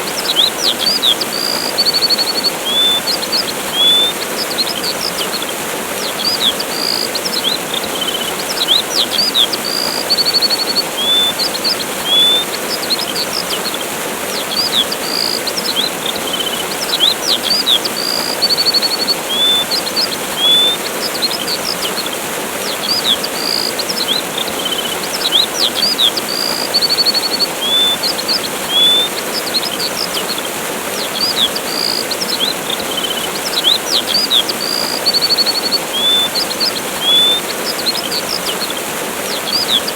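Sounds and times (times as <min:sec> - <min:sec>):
birds chirping and trilling: 0:00.0 - 0:39.9
waterfall rushing: 0:00.0 - 0:39.9.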